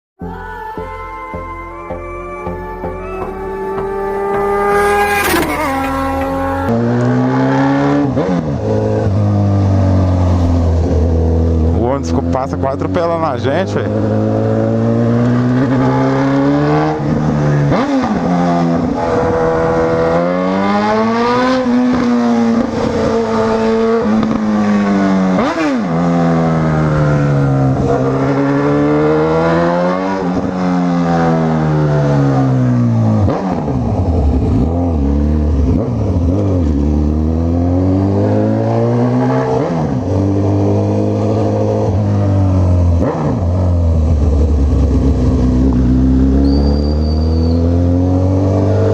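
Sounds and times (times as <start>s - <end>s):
motorcycle engine accelerating: 0.2s - 48.9s.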